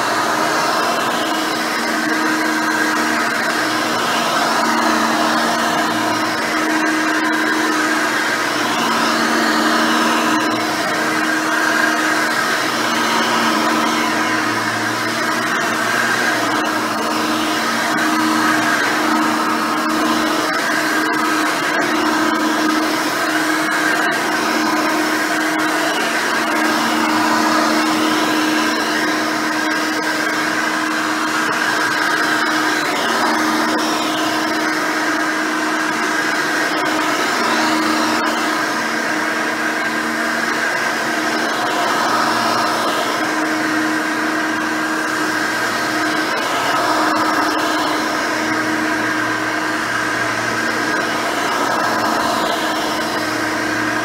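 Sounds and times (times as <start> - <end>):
upright vacuum running on carpet: 0.0 - 54.0.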